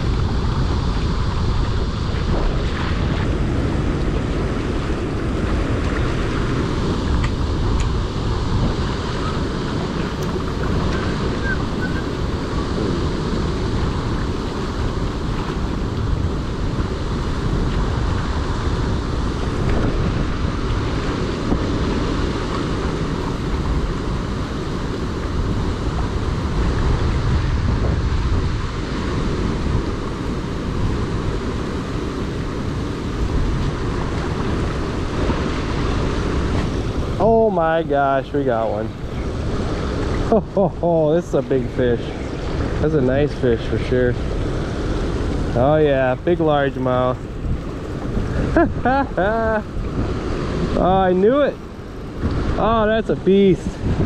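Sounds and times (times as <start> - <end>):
water slapping rocky shore: 0.0 - 54.0
wind buffeting microphone: 0.0 - 54.0.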